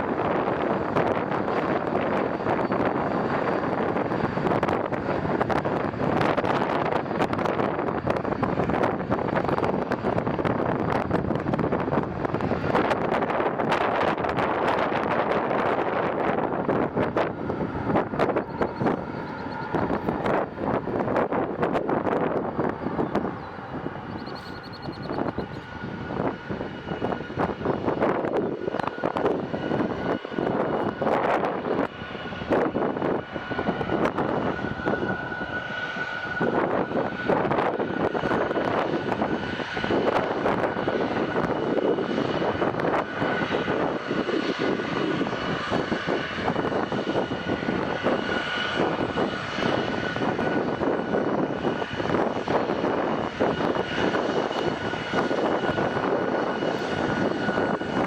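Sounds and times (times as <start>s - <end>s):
airplane engines running: 0.0s - 58.0s.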